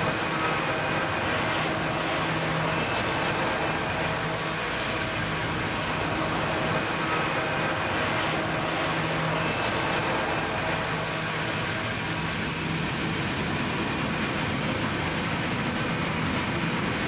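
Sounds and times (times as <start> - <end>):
locomotive engine hum: 0.0 - 17.0
wagons rolling on rails: 0.0 - 17.0.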